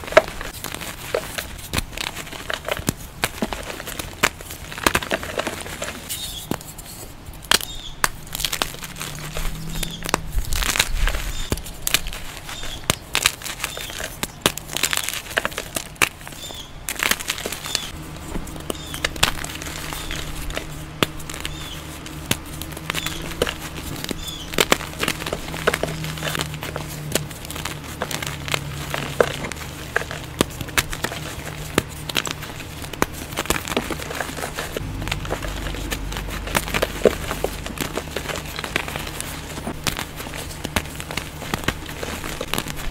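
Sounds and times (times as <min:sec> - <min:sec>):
chalk crunching between hands: 0:00.0 - 0:42.9.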